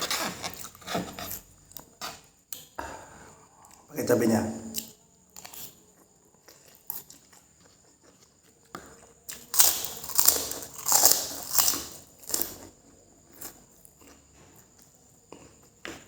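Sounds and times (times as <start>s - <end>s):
noisy eating and chewing: 0.0s - 3.9s, 4.7s - 16.0s.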